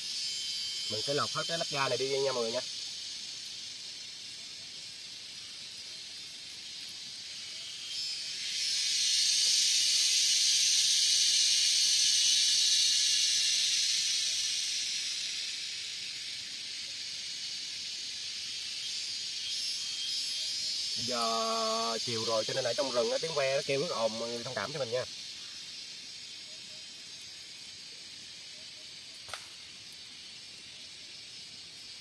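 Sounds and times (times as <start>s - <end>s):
cicadas buzzing in chorus: 0.0s - 32.0s.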